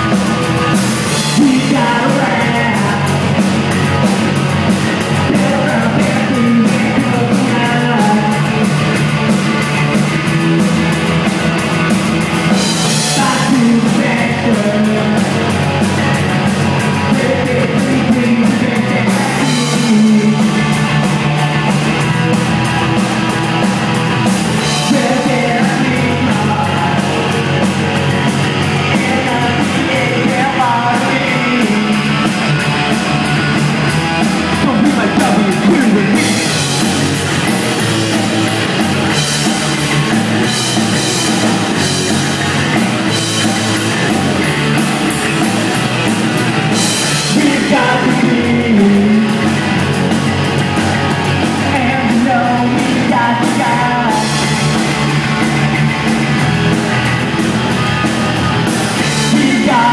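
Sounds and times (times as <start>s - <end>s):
punk rock band playing: 0.0s - 59.9s.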